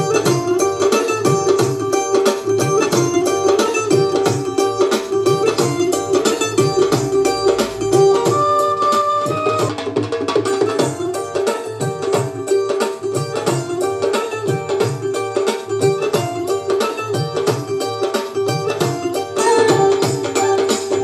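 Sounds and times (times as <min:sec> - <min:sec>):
music with plucked strings and beat: 0:00.0 - 0:21.0.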